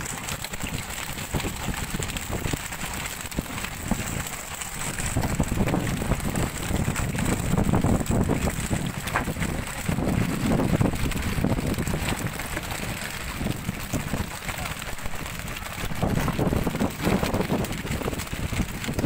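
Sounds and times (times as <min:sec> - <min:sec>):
sea noise: 0:00.0 - 0:19.0
wind buffeting microphone: 0:00.0 - 0:19.0.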